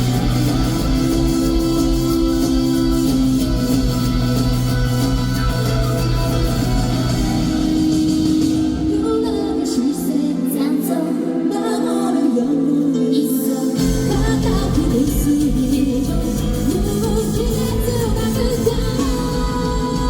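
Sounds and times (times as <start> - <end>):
rock band playing: 0.0 - 10.4, 13.8 - 20.0
woman singing lead vocal: 0.0 - 20.0.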